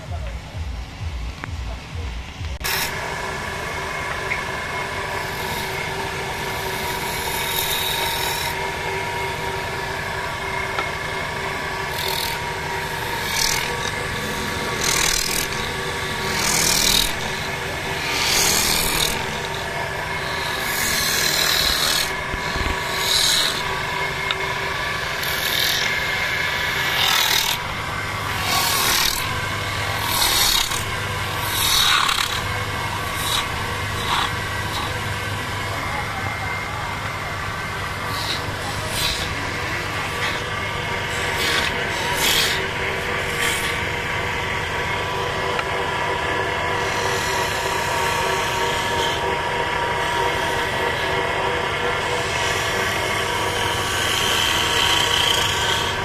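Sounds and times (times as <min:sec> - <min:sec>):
wood lathe humming: 0:02.4 - 0:56.0.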